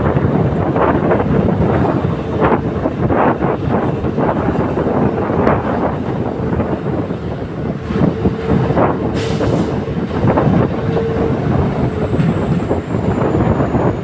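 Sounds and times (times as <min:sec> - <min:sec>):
train carriage rumble and rattle: 0:00.0 - 0:14.0.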